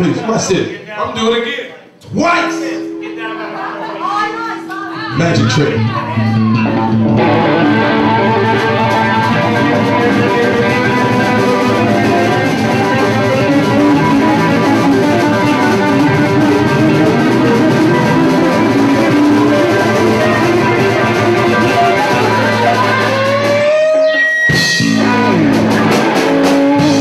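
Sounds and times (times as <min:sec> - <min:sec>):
live blues band playing: 0:02.5 - 0:27.0
electric guitar: 0:02.8 - 0:27.0.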